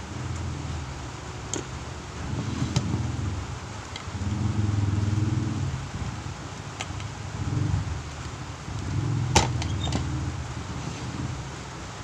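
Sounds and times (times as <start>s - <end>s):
low uneven hum: 0.0s - 12.0s.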